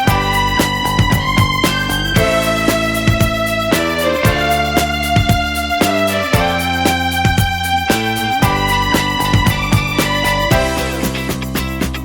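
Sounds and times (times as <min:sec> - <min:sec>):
background music with sustained notes: 0:00.0 - 0:12.0
steady regular beat: 0:00.0 - 0:12.0.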